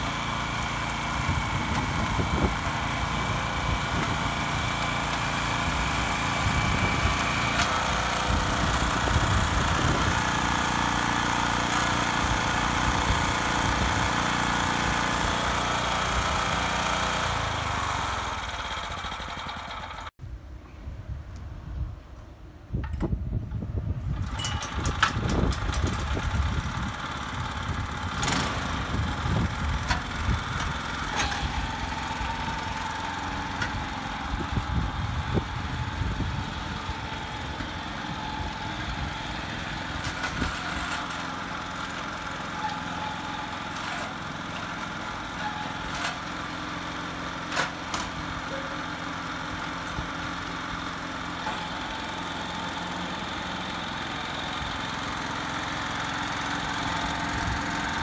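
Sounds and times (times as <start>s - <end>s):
tiller engine running: 0.0s - 20.2s, 24.0s - 58.0s.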